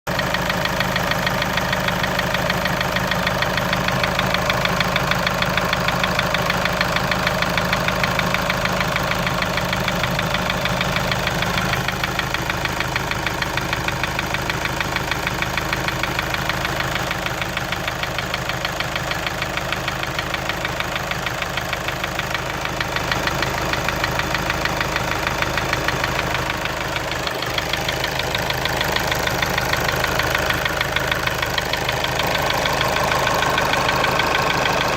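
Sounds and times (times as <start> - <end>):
diesel engine knocking: 0.1 - 34.9.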